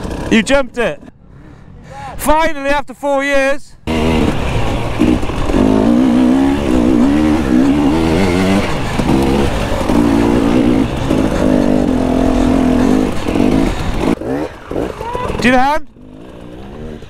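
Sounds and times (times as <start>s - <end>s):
dirt bike engine revving: 0.0s - 0.6s, 3.8s - 17.0s.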